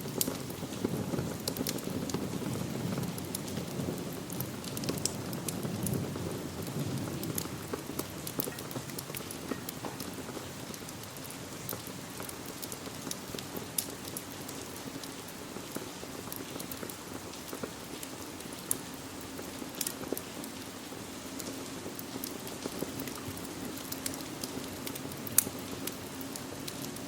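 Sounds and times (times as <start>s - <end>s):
steady rain: 0.0s - 27.0s
wood fire crackling and popping: 0.0s - 27.0s.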